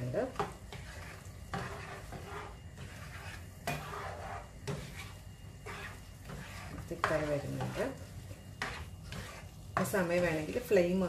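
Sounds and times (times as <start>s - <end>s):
sauce sizzling: 0.0s - 11.0s
utensil scraping frying pan: 0.0s - 11.0s.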